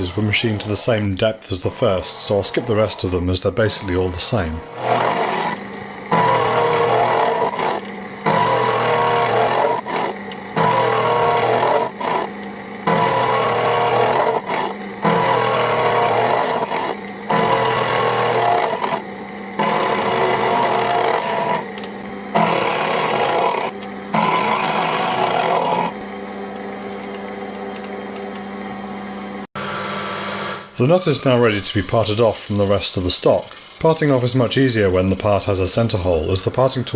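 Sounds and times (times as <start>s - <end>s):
milling machine cutting metal: 0.0s - 36.9s
motor humming: 0.0s - 36.9s.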